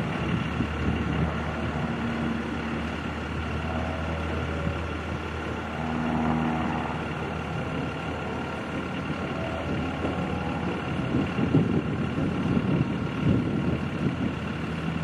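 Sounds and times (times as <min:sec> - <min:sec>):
light plane engine and propeller: 0:00.0 - 0:15.0.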